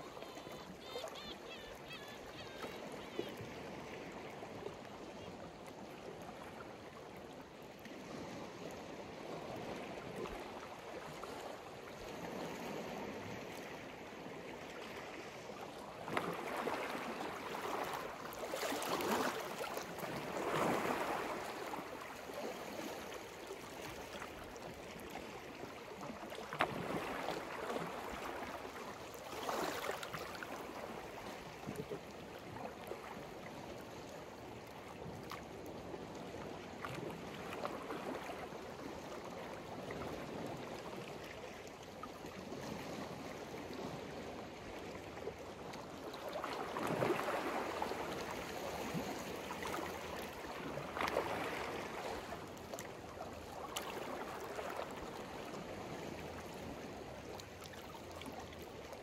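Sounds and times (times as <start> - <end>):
sea waves washing ashore: 0.0 - 59.0.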